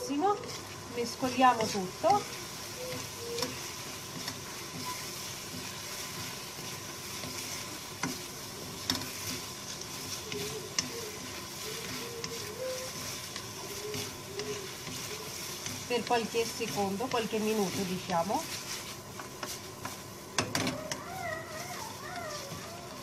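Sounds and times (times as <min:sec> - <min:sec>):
potatoes sizzling in frying pan: 0:00.0 - 0:23.0
stirring clicks: 0:00.0 - 0:23.0.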